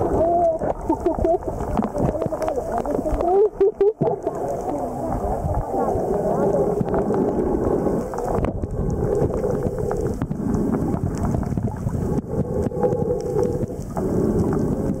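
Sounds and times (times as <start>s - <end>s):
muffled underwater rumble: 0.0s - 15.0s
faint clicks: 0.2s - 15.0s.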